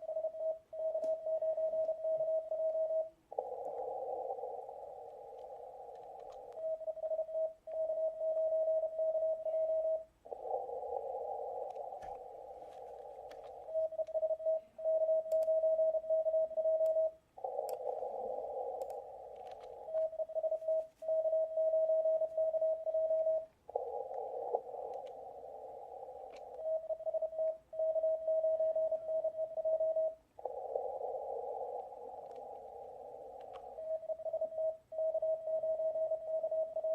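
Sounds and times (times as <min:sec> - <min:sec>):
morse code tone: 0:00.0 - 0:36.9.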